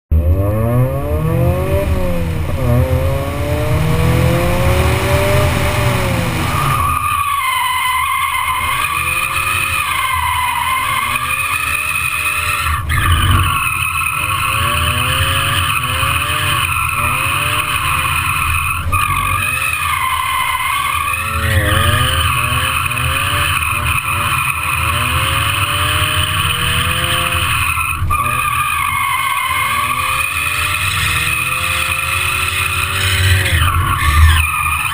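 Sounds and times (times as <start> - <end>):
car engine revving: 0.1 - 34.9
tyres squealing: 3.2 - 34.9.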